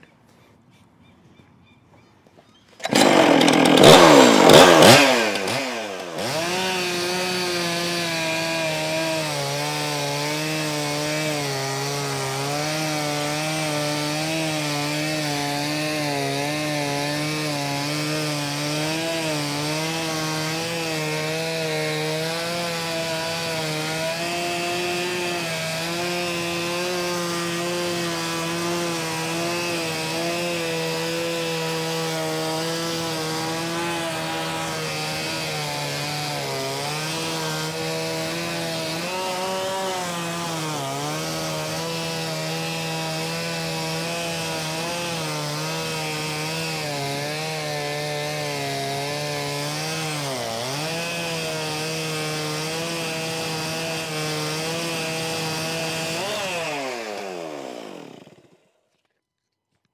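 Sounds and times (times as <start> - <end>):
chainsaw cutting a log: 2.8 - 59.2.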